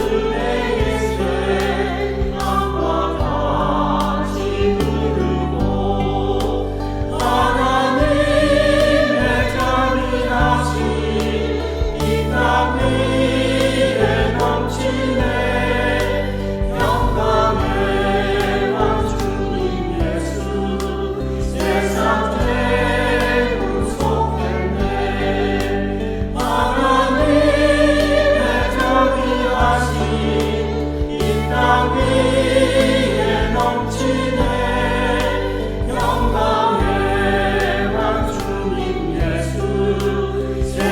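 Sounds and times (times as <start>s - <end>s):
choir singing a hymn: 0.0s - 40.9s
instrumental accompaniment: 0.0s - 40.9s.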